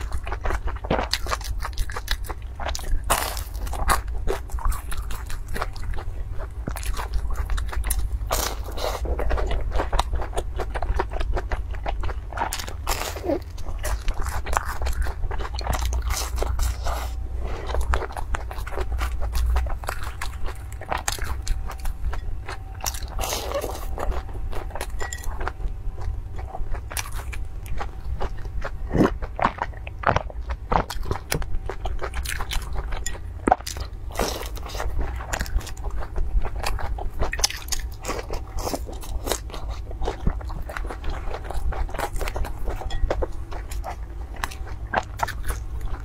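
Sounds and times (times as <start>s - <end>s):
crunchy biting and chewing: 0.0s - 46.0s.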